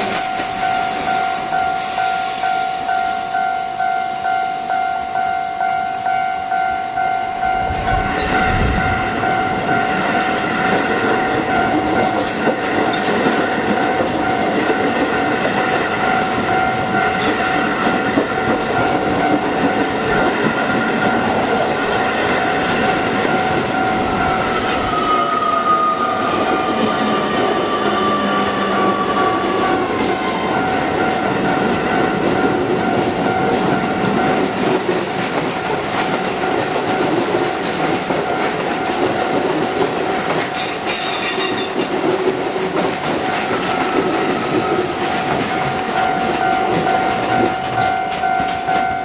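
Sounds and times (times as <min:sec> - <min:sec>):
train wheels clattering on rails: 0:00.0 - 0:03.4, 0:07.0 - 0:49.0
level crossing warning bell: 0:00.0 - 0:49.0.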